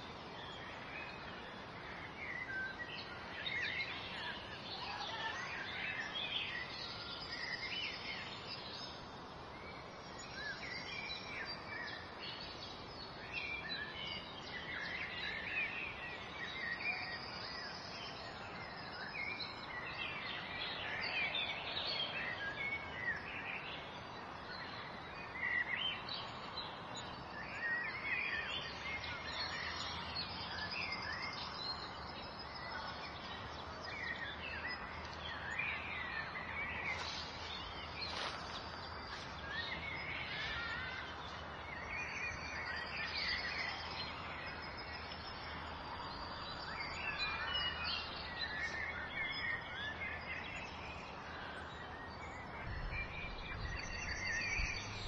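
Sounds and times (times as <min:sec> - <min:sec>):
songbirds chirping and trilling: 0:00.0 - 0:55.0
suburban background noise: 0:00.0 - 0:55.0.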